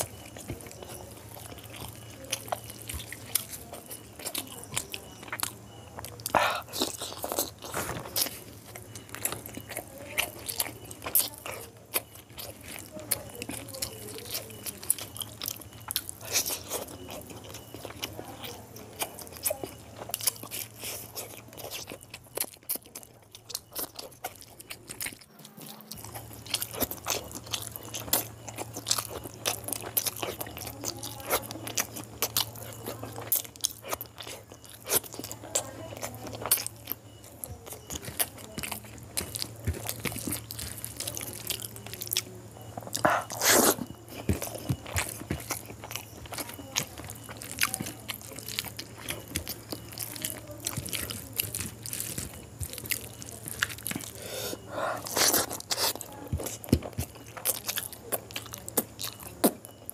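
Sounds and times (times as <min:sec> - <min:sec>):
hand squishing food: 0:00.0 - 0:59.9
wet chewing and lip smacking: 0:00.0 - 0:59.9.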